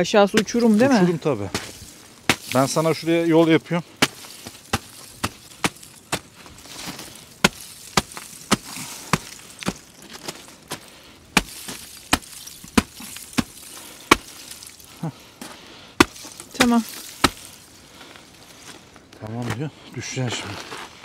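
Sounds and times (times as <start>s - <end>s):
boots kicking into icy crust: 0.3s - 21.0s.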